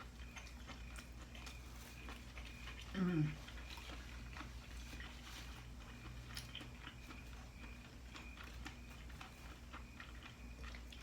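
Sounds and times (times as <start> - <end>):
wet chewing mouth clicks: 0.0 - 11.0.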